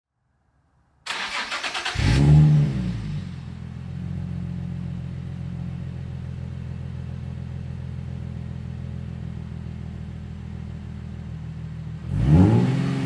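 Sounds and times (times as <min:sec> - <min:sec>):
car engine revving and idling: 0:01.1 - 0:13.0.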